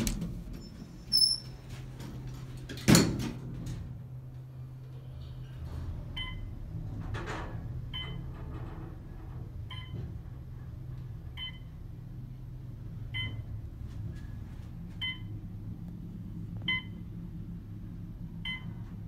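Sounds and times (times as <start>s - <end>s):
elevator hum: 0.0s - 19.0s.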